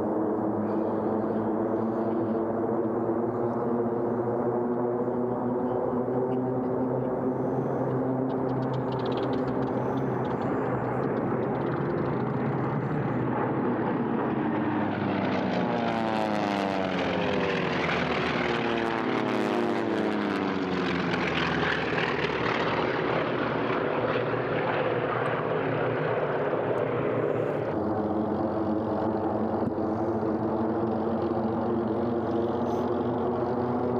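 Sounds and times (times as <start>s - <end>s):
propeller airplane flying past: 0.0s - 33.9s.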